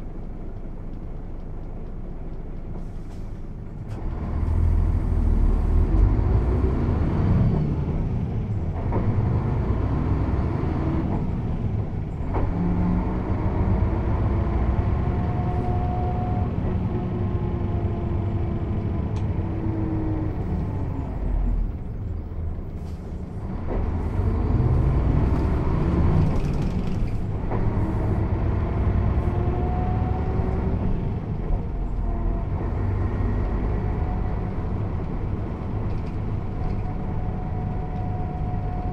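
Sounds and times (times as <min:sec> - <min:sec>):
bus diesel engine under load: 0:00.0 - 0:38.9.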